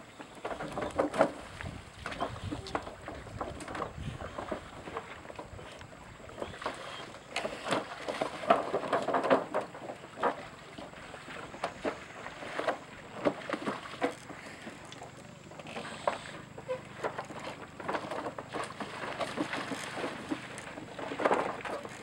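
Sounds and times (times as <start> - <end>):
splashing water: 0.4 - 22.0.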